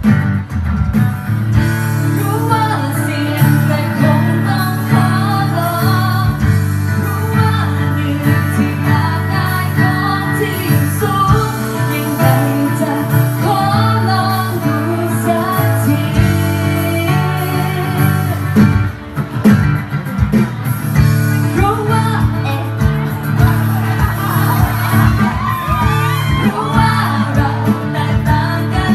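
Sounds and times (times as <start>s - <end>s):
acoustic guitar: 0.0s - 28.9s
woman singing into microphone: 1.6s - 19.0s, 21.4s - 28.9s.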